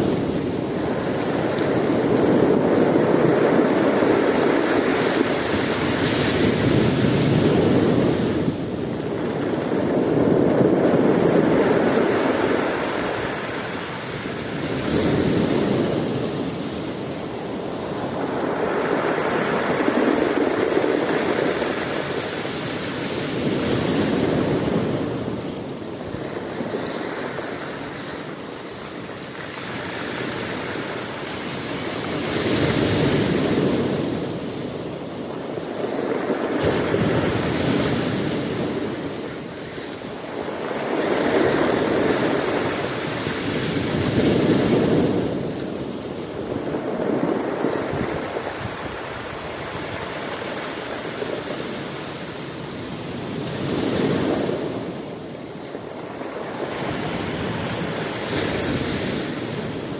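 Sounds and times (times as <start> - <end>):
ocean waves rushing in: 0.0 - 59.9.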